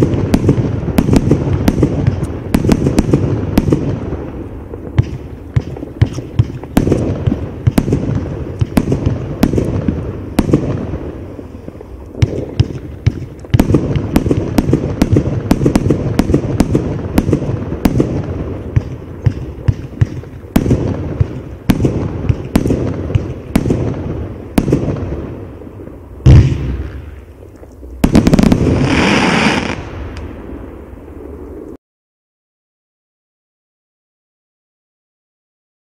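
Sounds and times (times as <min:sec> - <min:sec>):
firework bangs echoing: 0:00.0 - 0:30.8.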